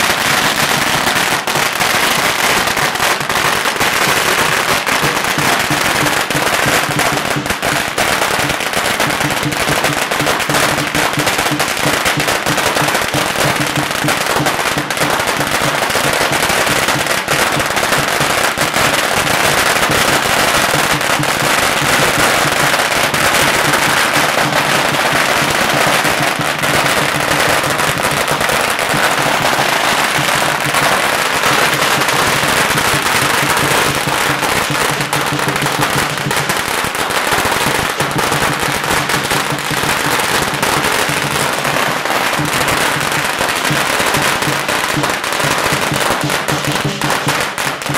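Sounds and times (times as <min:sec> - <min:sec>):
firecrackers popping: 0:00.0 - 0:47.9.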